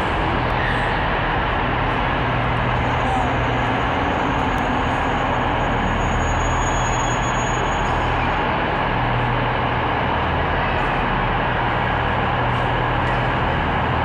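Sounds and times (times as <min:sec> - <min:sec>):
low engine hum: 0:00.0 - 0:14.0
train rumbling: 0:00.0 - 0:14.0.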